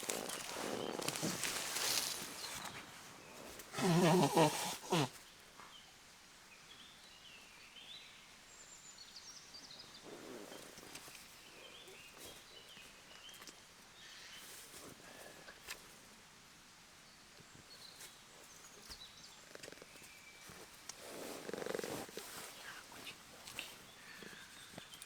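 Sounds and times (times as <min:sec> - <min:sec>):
faint songbird chirps: 0:00.1 - 0:16.0, 0:17.0 - 0:25.0.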